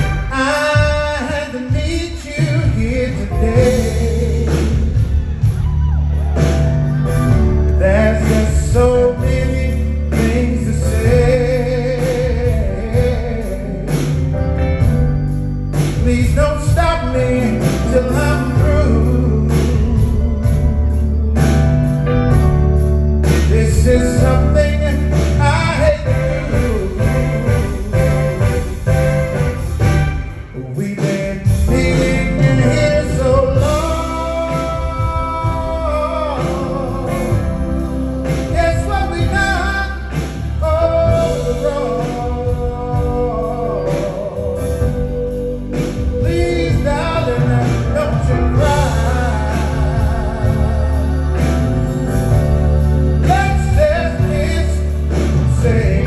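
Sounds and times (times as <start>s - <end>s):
man singing into a microphone: 0.0s - 5.3s, 7.7s - 14.2s, 15.8s - 21.0s, 23.2s - 28.7s, 30.6s - 51.7s, 53.2s - 56.0s
backing band: 0.0s - 56.0s
steady bass line: 0.0s - 56.0s
sustained keyboard chords: 0.0s - 56.0s.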